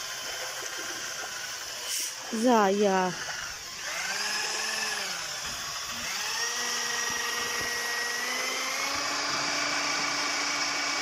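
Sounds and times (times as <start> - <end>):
electric drill mixing paint: 0.0 - 11.0.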